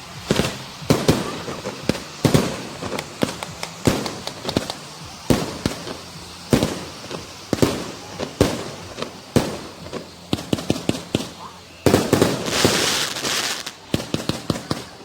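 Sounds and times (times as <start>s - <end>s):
pops and crackles: 0.0s - 15.0s.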